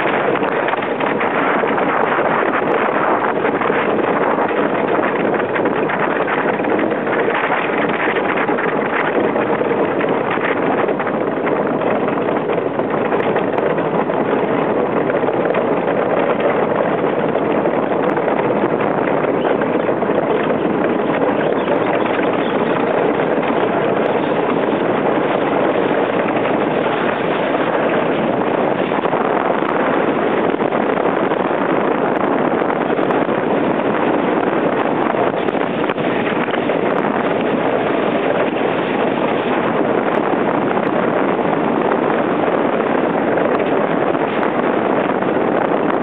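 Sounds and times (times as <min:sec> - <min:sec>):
wind on microphone: 0:00.0 - 0:46.0.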